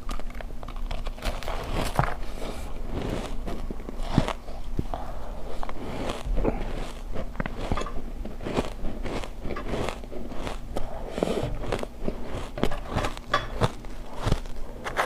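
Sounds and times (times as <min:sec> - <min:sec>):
chewing ice crunching: 0:00.0 - 0:15.0.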